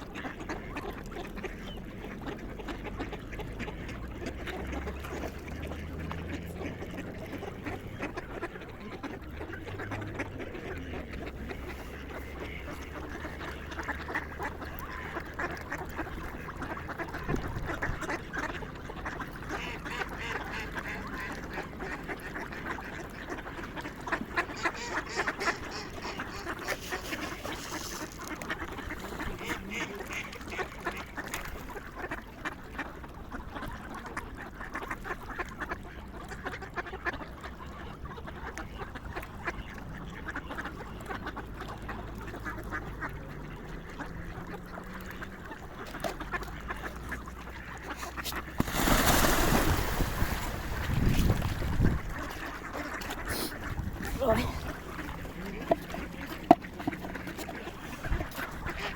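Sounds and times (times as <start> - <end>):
swans and waterfowl calling: 0.0 - 58.9.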